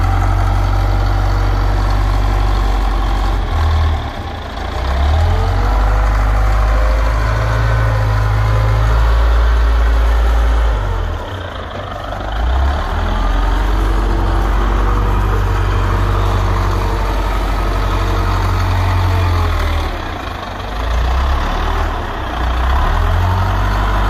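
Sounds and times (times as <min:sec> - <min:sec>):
diesel loader engine under load: 0:00.0 - 0:24.0.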